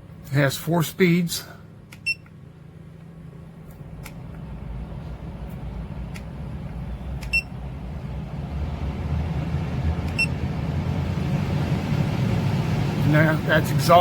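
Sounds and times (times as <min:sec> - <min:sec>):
vent fan running: 0:00.0 - 0:14.0.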